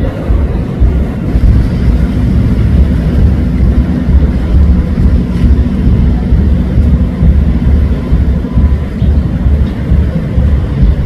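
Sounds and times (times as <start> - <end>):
deep rumble of bass: 0.0 - 11.0.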